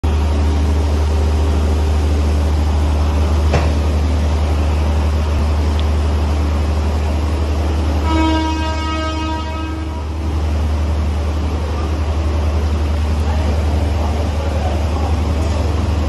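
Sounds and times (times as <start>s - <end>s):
train running gear rumble: 0.0s - 16.0s.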